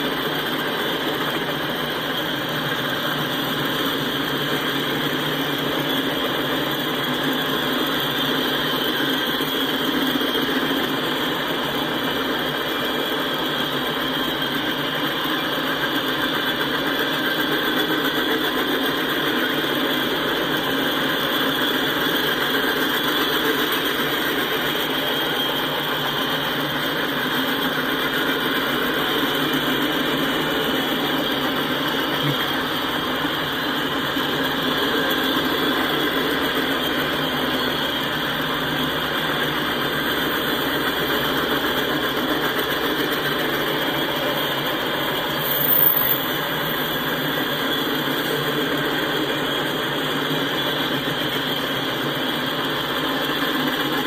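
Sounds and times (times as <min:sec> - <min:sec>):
steel wheels running on rails: 0:00.0 - 0:54.0.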